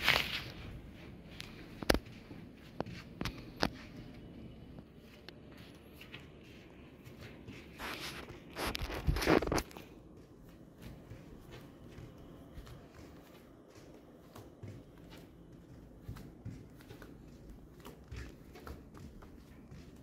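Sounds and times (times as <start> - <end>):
soft footsteps: 0.0 - 20.0.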